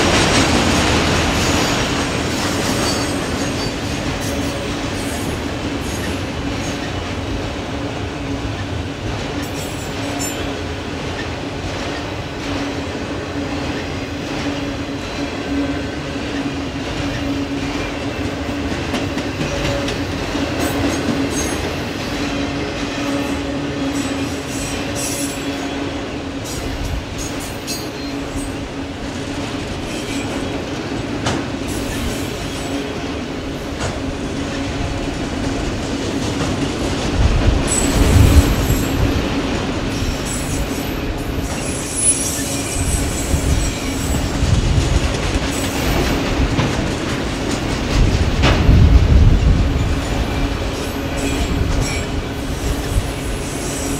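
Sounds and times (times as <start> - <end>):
train wheels on rails: 0.0 - 53.9.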